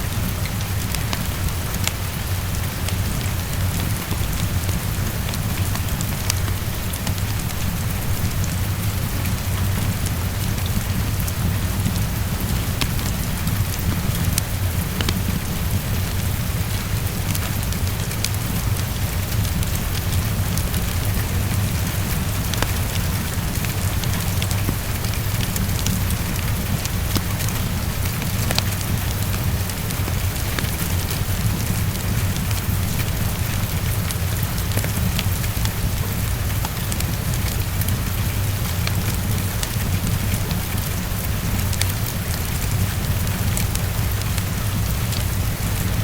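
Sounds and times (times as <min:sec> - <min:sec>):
heavy rain on a window: 0:00.0 - 0:46.0
fireplace crackling: 0:00.4 - 0:41.0.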